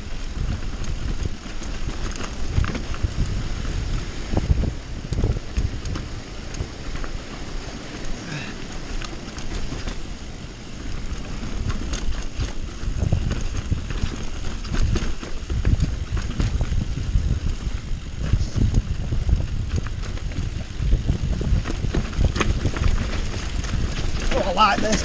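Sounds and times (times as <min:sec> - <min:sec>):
bike clicks and rattles: 0:00.0 - 0:25.0
tyres rumbling on dirt trail: 0:00.0 - 0:25.0
wind on microphone: 0:00.0 - 0:25.0.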